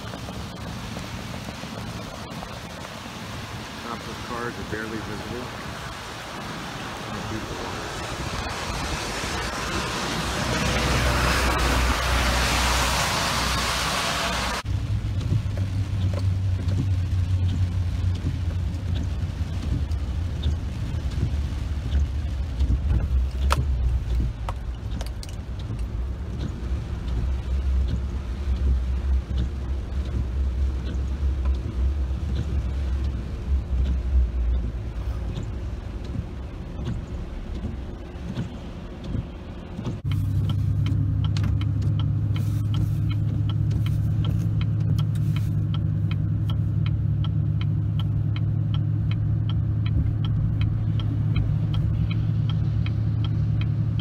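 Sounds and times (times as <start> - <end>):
car engine and tyres rumbling: 0.0 - 54.0
heavy rain falling: 0.0 - 54.0.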